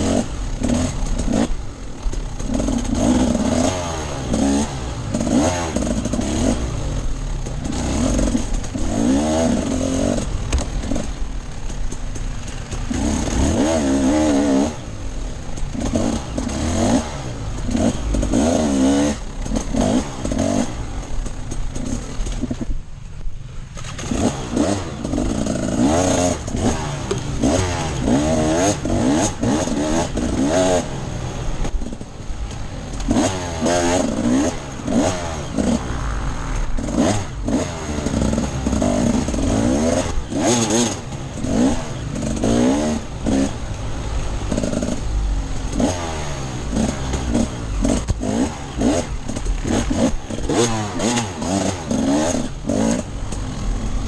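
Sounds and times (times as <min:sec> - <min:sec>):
dirt bike engine revving: 0:00.0 - 0:22.8, 0:23.8 - 0:54.0.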